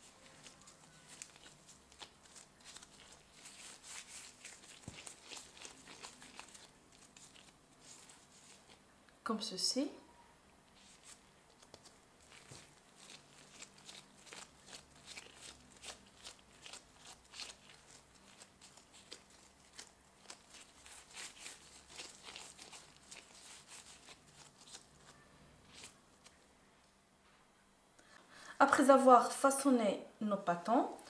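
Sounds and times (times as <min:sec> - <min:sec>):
gloves crackling and rustling: 0:00.0 - 0:09.0, 0:10.6 - 0:27.4.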